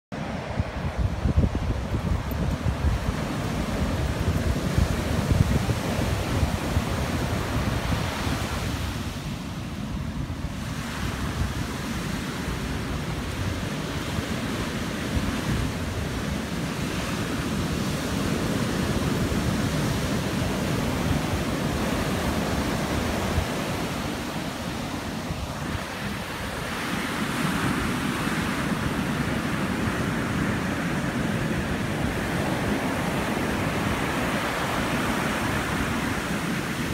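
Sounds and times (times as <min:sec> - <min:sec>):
surf crashing on a beach: 0:00.2 - 0:36.9
wind buffeting microphone: 0:00.2 - 0:36.9.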